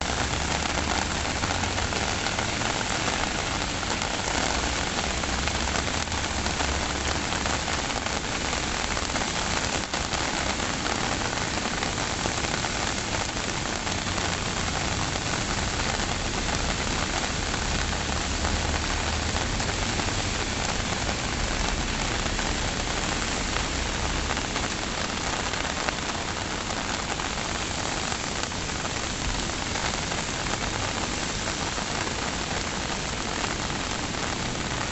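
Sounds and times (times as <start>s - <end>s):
heavy rain pattering: 0.0s - 34.9s.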